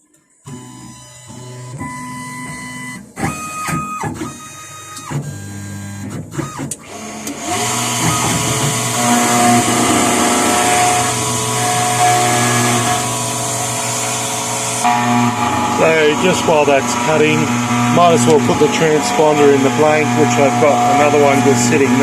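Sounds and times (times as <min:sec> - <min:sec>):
machine motors whining: 0:00.5 - 0:22.0.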